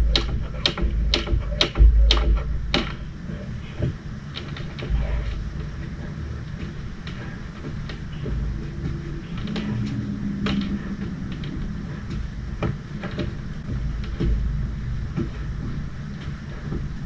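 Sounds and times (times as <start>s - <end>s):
feet tapping on rubber mat: 0.0s - 17.0s
low hum: 0.0s - 17.0s.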